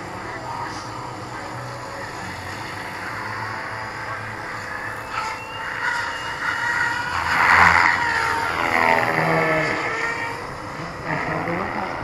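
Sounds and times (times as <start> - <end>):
helicopter motor and rotor whine: 0.0 - 12.0.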